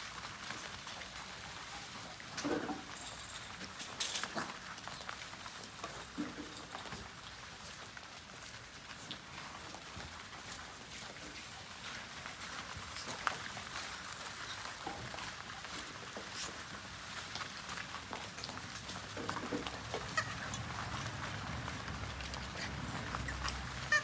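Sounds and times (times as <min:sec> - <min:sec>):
puppies clicking and scuffling: 0:00.0 - 0:24.0.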